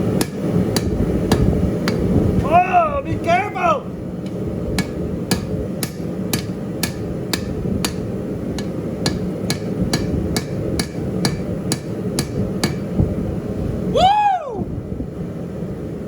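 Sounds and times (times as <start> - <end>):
hammer blows on hot steel: 0.0 - 13.5.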